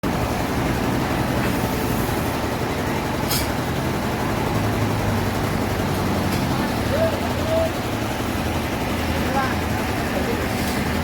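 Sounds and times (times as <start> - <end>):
sawmill machinery running: 0.0 - 11.0.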